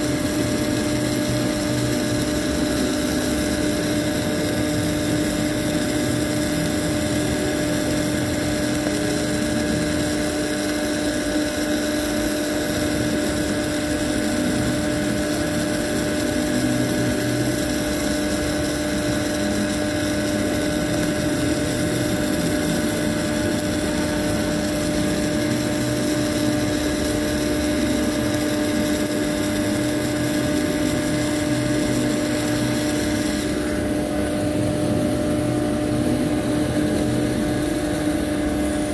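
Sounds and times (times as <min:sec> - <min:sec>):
welding hiss: 0:00.0 - 0:38.9
welding machine humming: 0:00.0 - 0:38.9.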